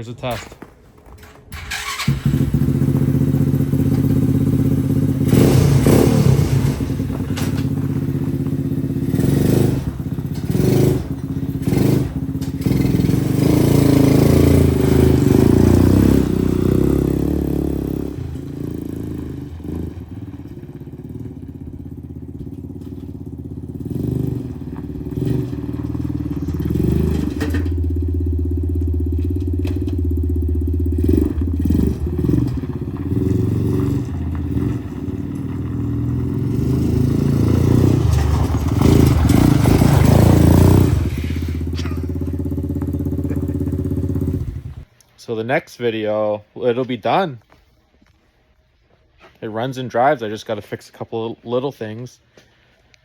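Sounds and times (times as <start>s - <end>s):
lawnmower engine revving: 1.4s - 44.9s.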